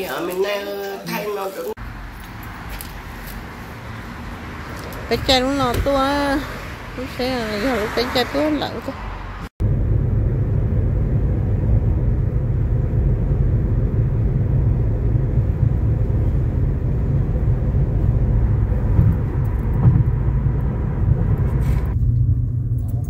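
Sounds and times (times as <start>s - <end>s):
road and tyre rumble: 1.8s - 23.0s.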